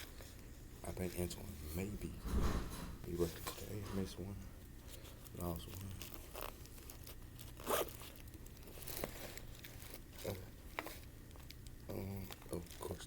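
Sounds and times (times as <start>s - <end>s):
objects rustling and scraping: 0.0s - 13.0s.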